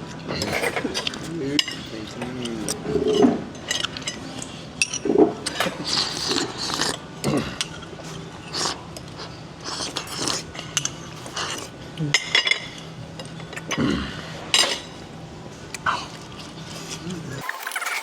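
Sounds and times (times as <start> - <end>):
low room hum: 0.0 - 17.4.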